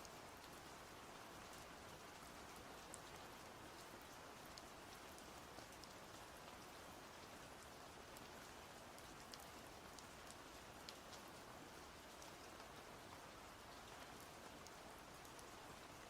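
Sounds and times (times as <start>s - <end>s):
soft rain falling: 0.0s - 16.0s.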